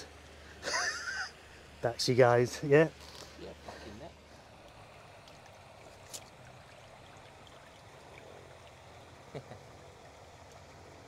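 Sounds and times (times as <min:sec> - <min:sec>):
water dripping: 0:00.0 - 0:11.0
water trickling and lapping: 0:00.0 - 0:11.0.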